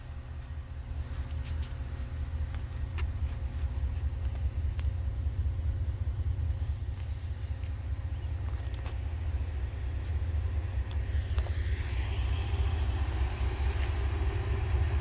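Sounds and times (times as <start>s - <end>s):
distant train locomotive rumble: 0.0s - 15.0s
faint steady hum: 0.0s - 15.0s.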